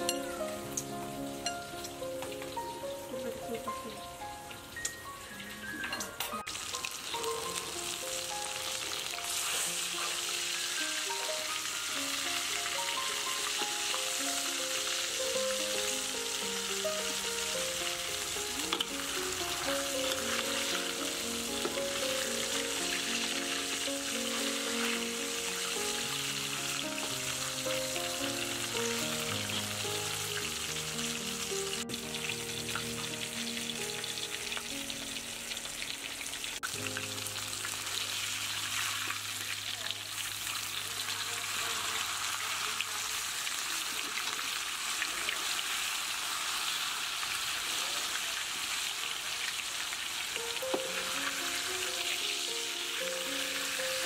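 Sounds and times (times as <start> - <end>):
soft background melody: 0.0 - 41.6, 50.3 - 54.0
fish sizzling in hot oil: 0.0 - 54.0.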